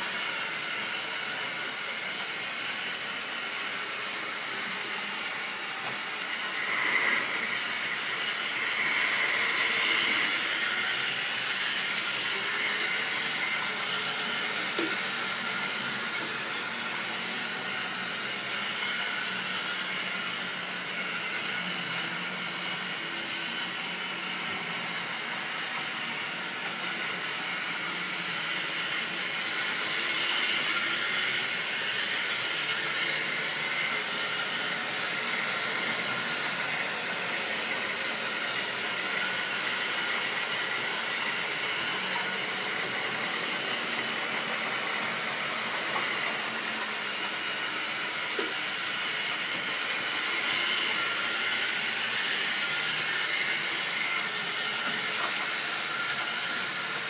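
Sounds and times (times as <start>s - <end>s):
model train motors whirring: 0.0s - 57.0s.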